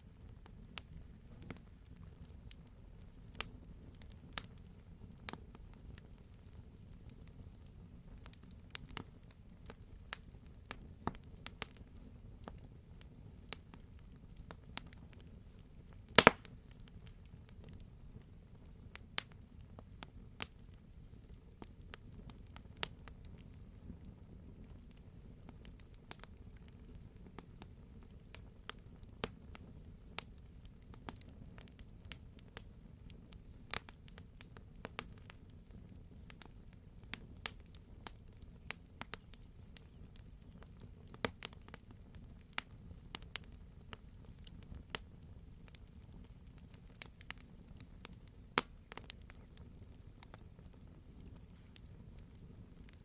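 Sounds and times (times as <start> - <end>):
campfire low rumble: 0.0 - 53.0
logs crackling and popping: 0.2 - 53.0.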